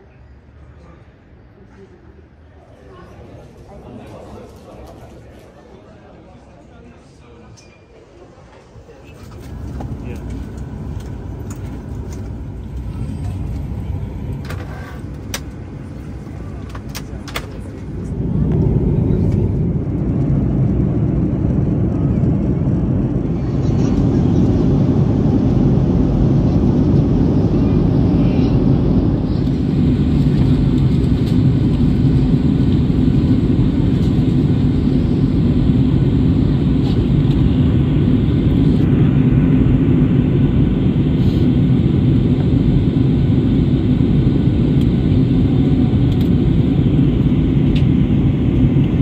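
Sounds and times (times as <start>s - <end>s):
airliner cabin engine and airflow rush: 0.0s - 49.0s.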